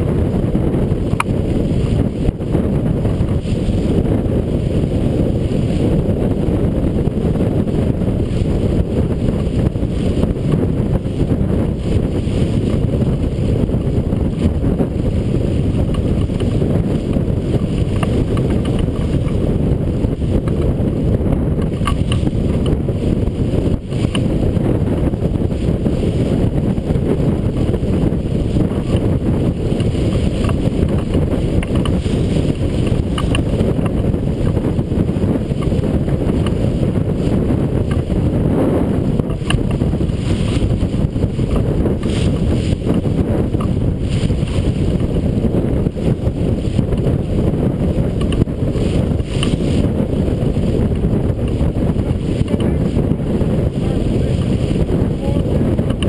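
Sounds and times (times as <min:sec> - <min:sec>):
water rushing along hull: 0:00.0 - 0:56.0
wind buffeting microphone: 0:00.0 - 0:56.0.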